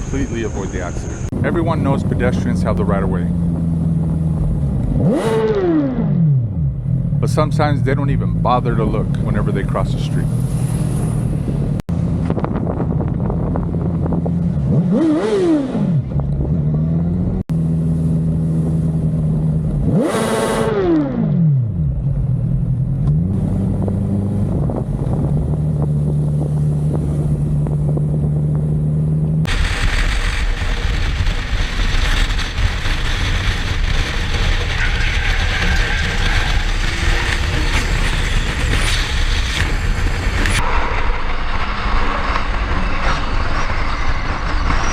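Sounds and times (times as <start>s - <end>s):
wind and road rush: 0.0s - 44.9s
motorcycle engine revving: 1.0s - 12.8s, 13.4s - 44.9s.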